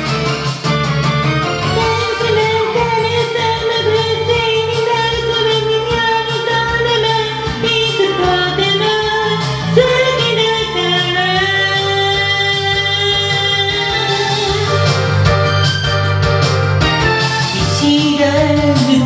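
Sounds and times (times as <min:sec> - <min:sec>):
pop song with sung melody: 0:00.0 - 0:19.0
steady bass line: 0:00.0 - 0:19.0.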